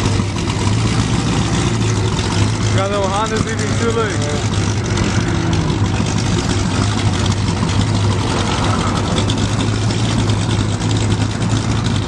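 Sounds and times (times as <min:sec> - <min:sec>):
car engine idling: 0:00.0 - 0:12.0
surrounding traffic: 0:00.0 - 0:12.0.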